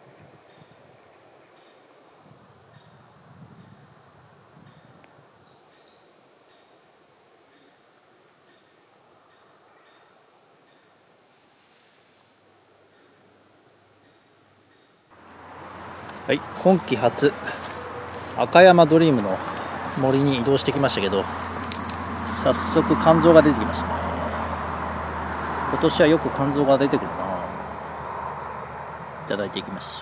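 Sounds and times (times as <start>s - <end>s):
faint outdoor hiss: 0.0s - 24.6s.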